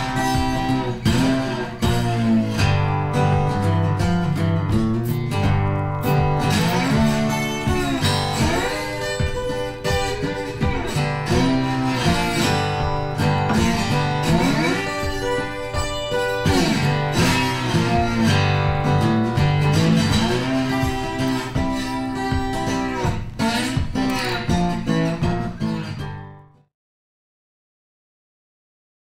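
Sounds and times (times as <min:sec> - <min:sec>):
country acoustic guitar music: 0:00.0 - 0:26.7.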